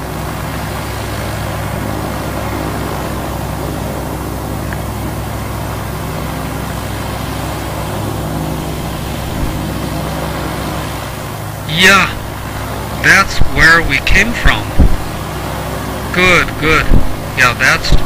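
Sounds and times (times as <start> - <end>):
propeller airplane engine droning: 0.0 - 18.0.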